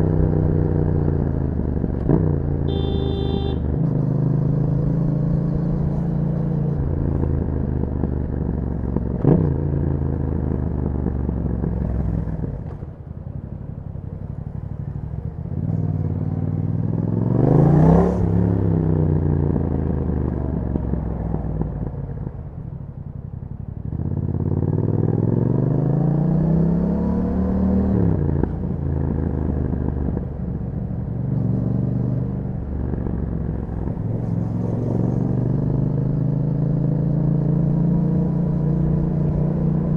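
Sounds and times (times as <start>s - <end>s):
motorcycle engine accelerating: 0.0s - 13.5s, 14.4s - 39.9s.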